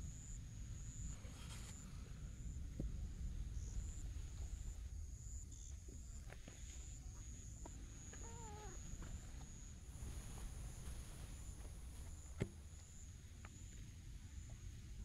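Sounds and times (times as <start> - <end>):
insect trill: 0.0 - 15.0
wind rumble on microphone: 0.0 - 15.0.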